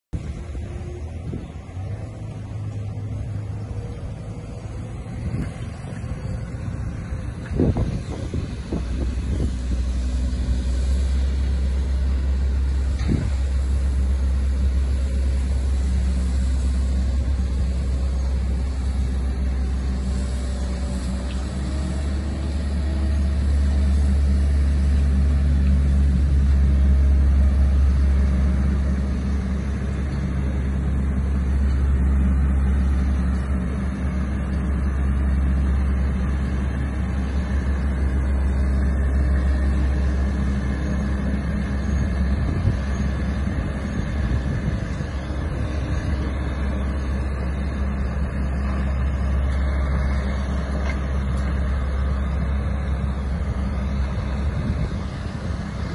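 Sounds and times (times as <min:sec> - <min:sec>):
loader engine droning: 0:00.1 - 0:55.9.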